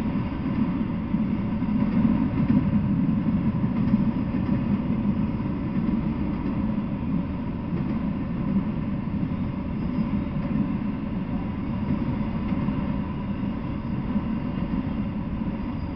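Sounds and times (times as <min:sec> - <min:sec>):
freight train wheels rumbling: 0:00.0 - 0:15.9.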